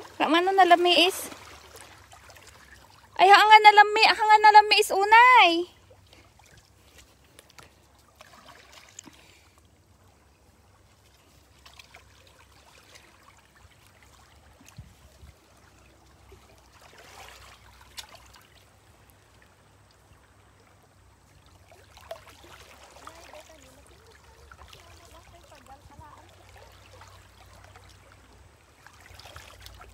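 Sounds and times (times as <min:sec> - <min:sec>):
small waves lapping over pebbles: 0:00.0 - 0:03.3, 0:05.7 - 0:29.9.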